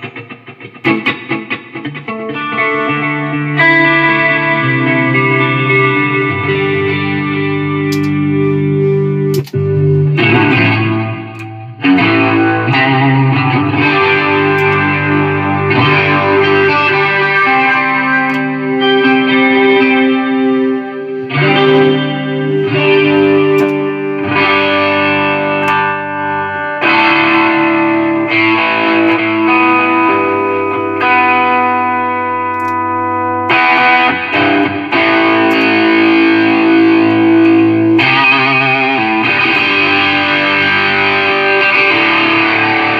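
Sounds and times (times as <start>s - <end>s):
distorted electric guitar chords: 0.0s - 42.9s.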